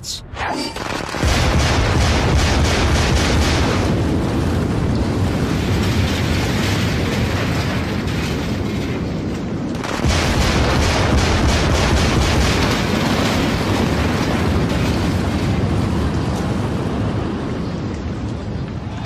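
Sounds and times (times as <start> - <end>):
demolition charges crackling: 0.4 - 19.0
heavy rumble of building collapse: 0.8 - 19.0.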